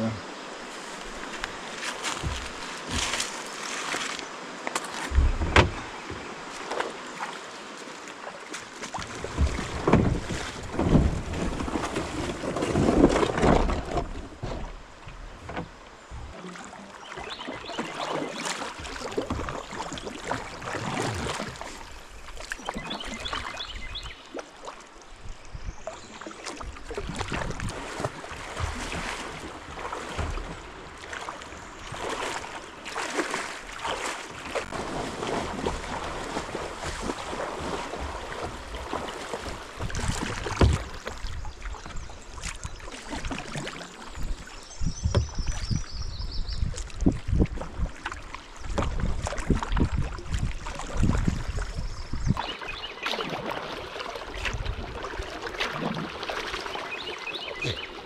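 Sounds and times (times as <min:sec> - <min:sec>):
paddle strokes splashing: 0:00.2 - 0:58.0
footsteps wading in water: 0:00.6 - 0:58.0.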